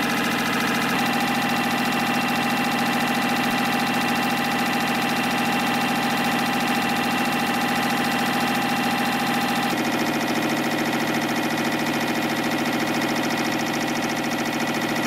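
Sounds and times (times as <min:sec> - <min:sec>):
spring coiling machine running: 0:00.0 - 0:15.0
steady machine whine: 0:00.0 - 0:15.0.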